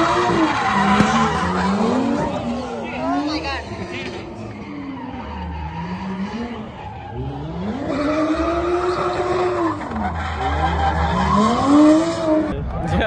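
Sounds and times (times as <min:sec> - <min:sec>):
tyres screeching: 0:00.0 - 0:12.4
car engine revving hard: 0:00.0 - 0:12.5.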